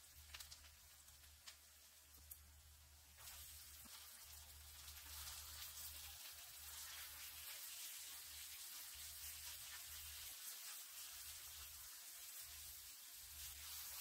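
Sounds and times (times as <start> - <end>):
food frying in oil: 0.0 - 14.0.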